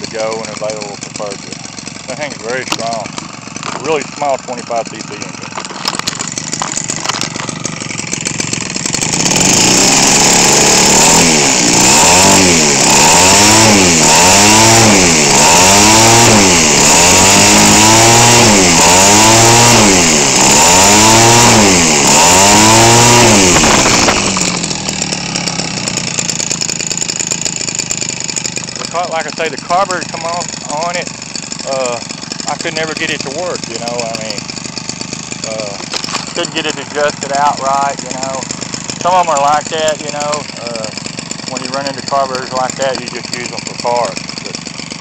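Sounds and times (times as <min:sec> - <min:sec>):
model airplane engine revving: 0:00.0 - 0:45.0.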